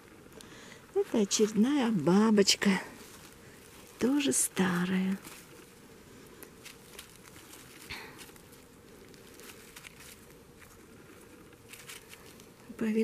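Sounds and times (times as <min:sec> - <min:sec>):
rustling of pine needles and grass: 0:00.0 - 0:13.0.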